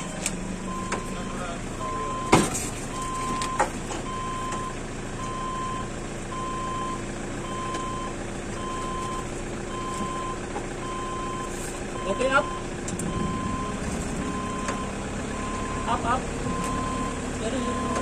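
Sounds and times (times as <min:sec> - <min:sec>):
reversing alarm beeping: 0:00.0 - 0:18.0.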